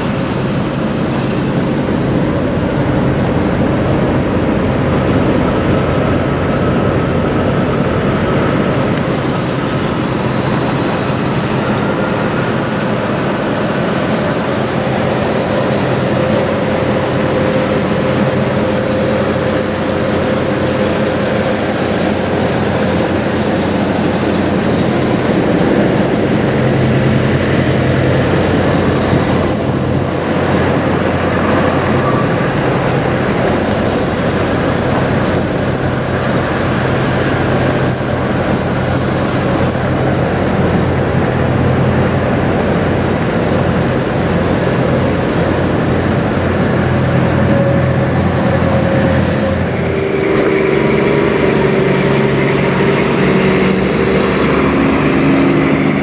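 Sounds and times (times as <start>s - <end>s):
diesel truck engines idling: 0.0s - 56.0s.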